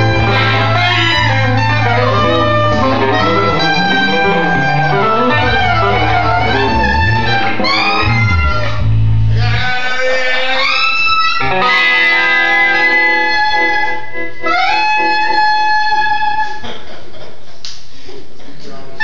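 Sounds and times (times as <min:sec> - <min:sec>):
saxophone long held notes: 0:00.0 - 0:16.6
electric guitars: 0:00.0 - 0:16.7.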